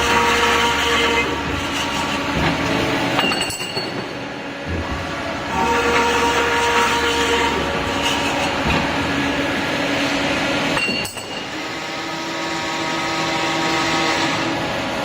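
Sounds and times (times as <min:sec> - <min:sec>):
pipe cutting machine running: 0:00.0 - 0:15.0.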